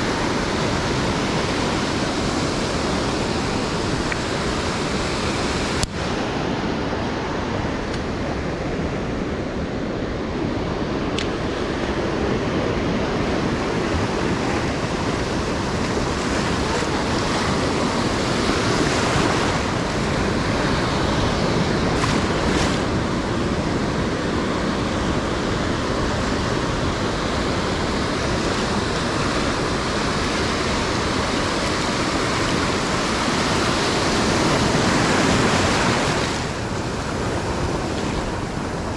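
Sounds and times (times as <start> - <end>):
ocean surf breaking: 0.0 - 38.9
wind on microphone: 0.0 - 38.9.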